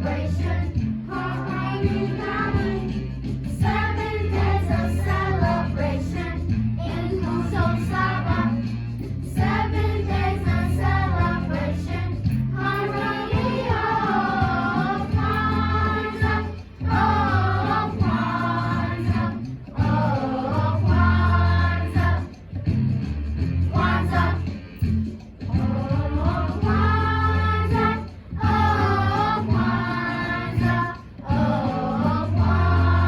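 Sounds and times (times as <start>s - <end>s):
children's choir singing: 0.0s - 8.6s, 9.2s - 22.4s, 23.7s - 24.6s, 25.5s - 33.0s
instrumental accompaniment with bass: 0.0s - 33.0s.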